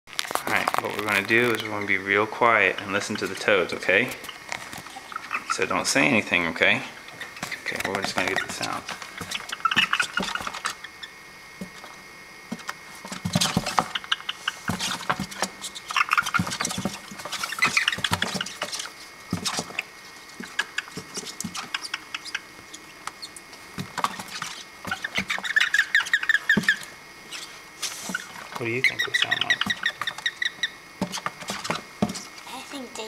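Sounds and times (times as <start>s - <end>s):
toads chirping: 0.4s - 33.0s.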